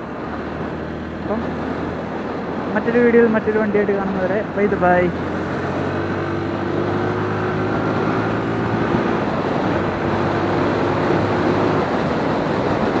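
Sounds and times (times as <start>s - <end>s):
wind and road rush: 0.0s - 13.0s.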